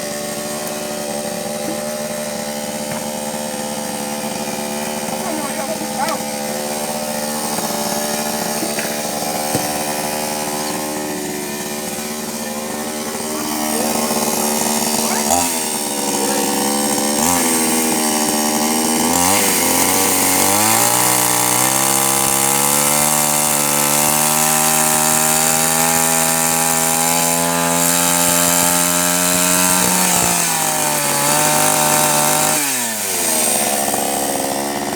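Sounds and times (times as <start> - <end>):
chainsaw cutting logs: 0.0 - 34.9.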